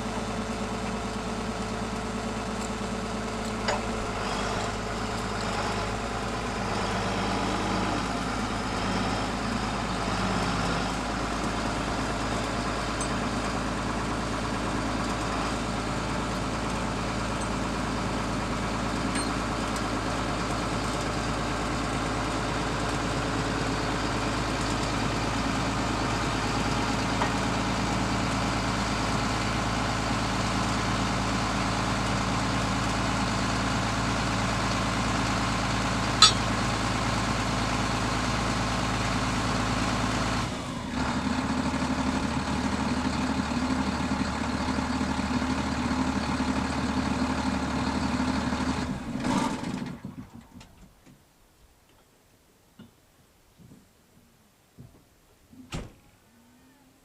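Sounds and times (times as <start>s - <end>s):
engine idling: 0.0s - 50.6s.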